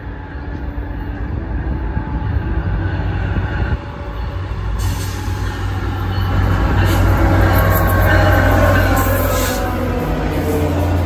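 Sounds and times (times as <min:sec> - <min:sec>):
diesel locomotive rumble: 0:00.0 - 0:11.0
rail and wheel hiss: 0:00.0 - 0:11.0.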